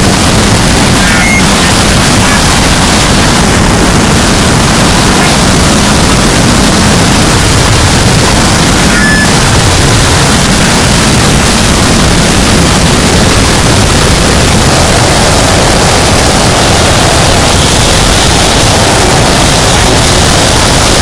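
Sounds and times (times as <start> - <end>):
dense distorted static noise: 0.0 - 21.0.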